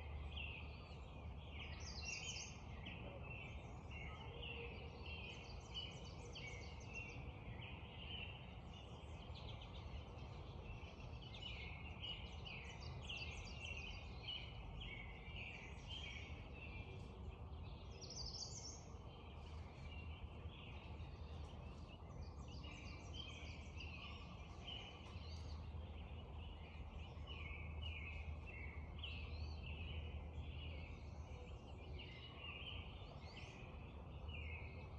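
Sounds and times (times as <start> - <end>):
songbirds chirping and singing: 0.0 - 34.9.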